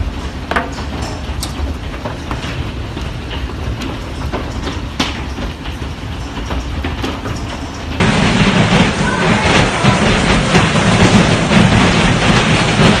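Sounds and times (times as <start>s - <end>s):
hailstones striking: 0.0s - 13.0s
steady low rumble: 0.0s - 13.0s.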